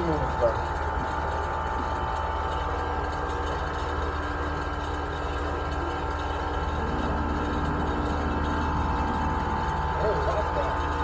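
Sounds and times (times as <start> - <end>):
air conditioning unit humming: 0.0 - 11.0.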